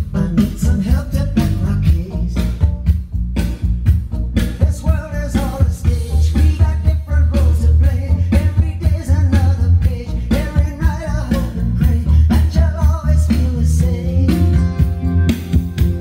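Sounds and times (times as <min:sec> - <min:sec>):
song with singing and drum beat: 0:00.0 - 0:16.0.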